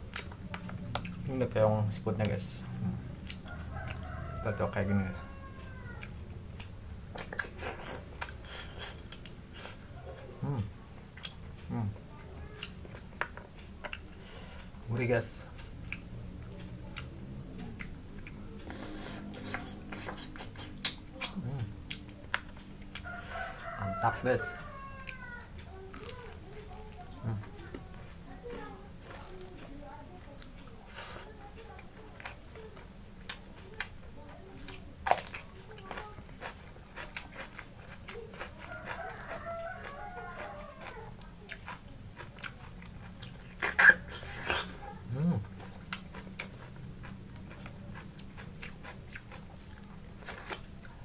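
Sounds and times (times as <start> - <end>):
man chewing with mouth clicks: 0.0 - 51.0.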